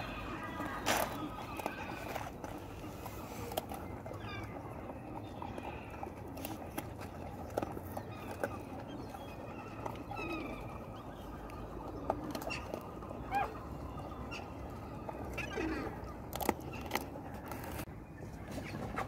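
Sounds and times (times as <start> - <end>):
dogs chewing and crunching: 0.0 - 19.0
outdoor background noise: 0.0 - 19.0.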